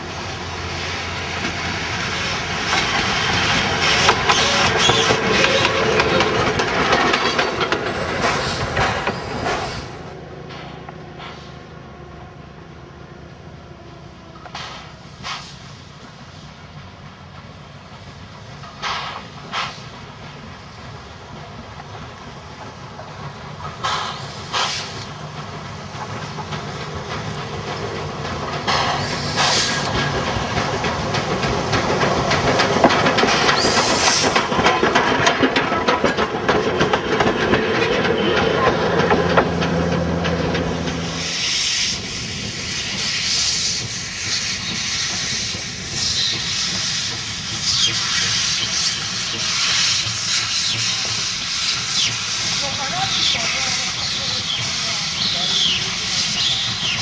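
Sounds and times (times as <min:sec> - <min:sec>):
hissing steam: 0:00.0 - 0:11.8, 0:14.4 - 0:36.6, 0:38.1 - 0:57.0.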